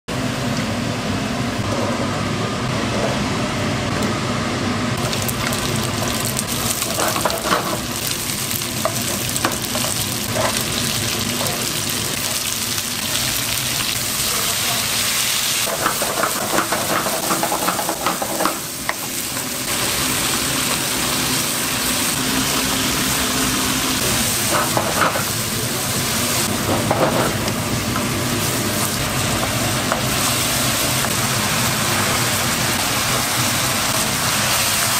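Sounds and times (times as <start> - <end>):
food sizzling in a hot pan: 5.0 - 34.9.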